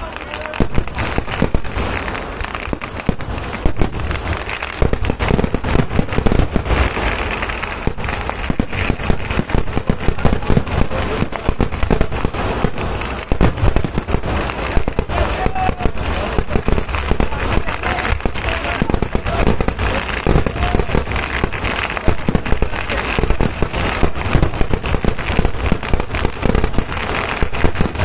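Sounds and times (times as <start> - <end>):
firecrackers going off: 0.0 - 28.0.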